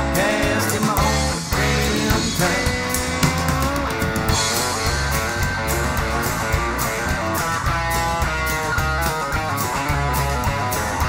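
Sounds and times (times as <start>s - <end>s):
bass: 0.0s - 11.0s
electric guitar: 0.0s - 11.0s
steady drum beat: 0.0s - 11.0s
strummed acoustic guitar: 0.0s - 11.0s.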